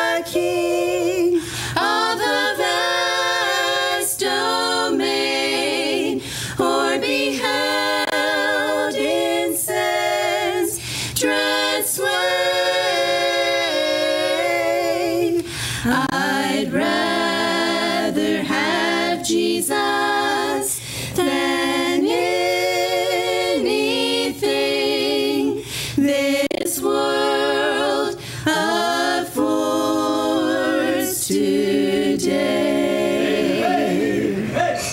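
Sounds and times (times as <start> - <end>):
women singing a cappella hymn: 0.0 - 34.9.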